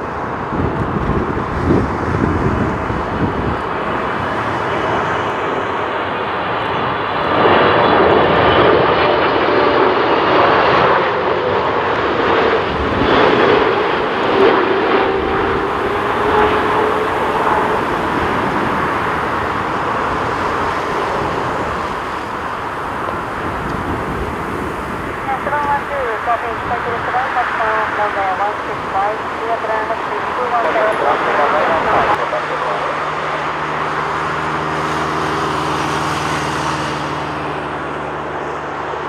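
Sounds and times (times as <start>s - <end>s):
jet airliner roar and whine: 0.0s - 39.0s.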